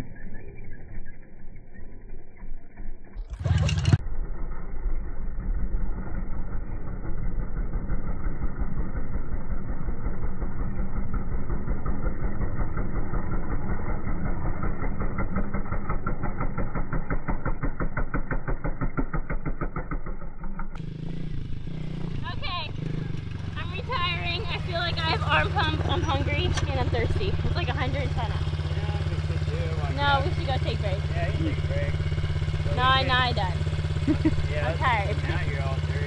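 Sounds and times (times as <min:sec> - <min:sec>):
dirt bike engine running: 0:00.0 - 0:36.0.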